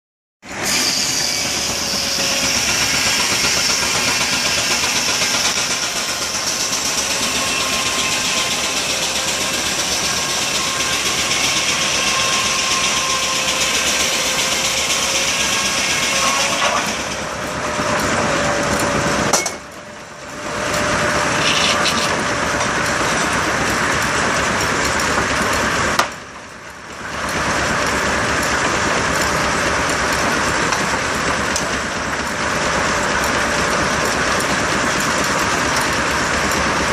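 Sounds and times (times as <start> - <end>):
steam engine and sawmill running: 0.4 - 36.9.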